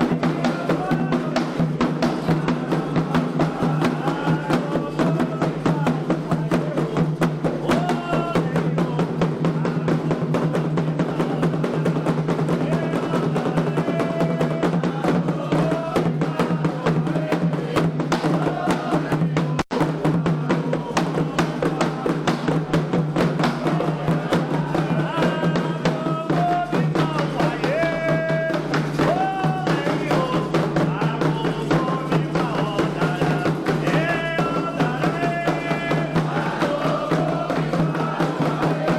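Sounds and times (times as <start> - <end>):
ritual hand drumming: 0.0 - 38.9
voices singing a chant: 0.0 - 38.9.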